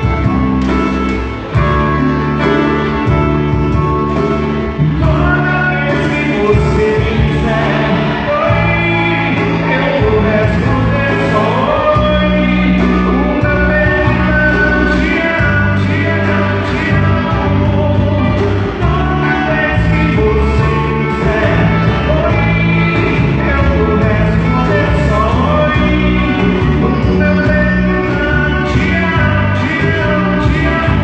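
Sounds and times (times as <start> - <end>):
live band playing: 0.0 - 31.0
person singing: 0.0 - 31.0
steady bass line: 0.0 - 31.0.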